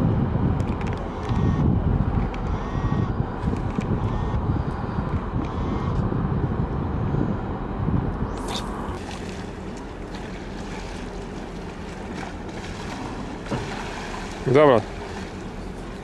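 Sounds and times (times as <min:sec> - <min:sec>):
ferry engines rumbling: 0:00.0 - 0:16.0
wind buffeting microphone: 0:00.0 - 0:16.0.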